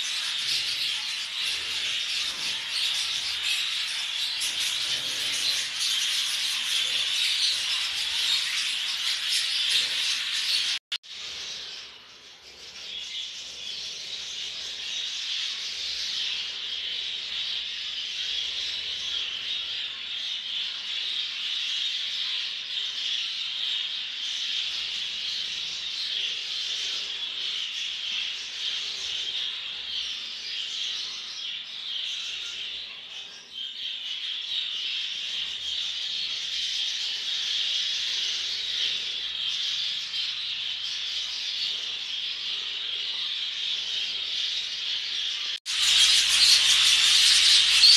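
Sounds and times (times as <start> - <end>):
budgerigars chattering and squawking: 0.0 - 47.9.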